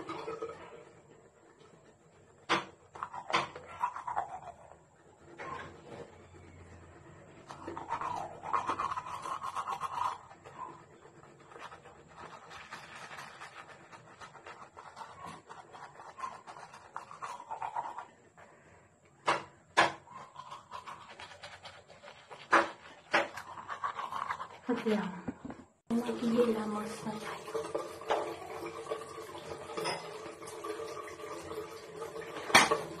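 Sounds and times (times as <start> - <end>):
toothbrush scrubbing teeth: 0.0 - 18.5, 20.0 - 25.2, 26.0 - 33.0.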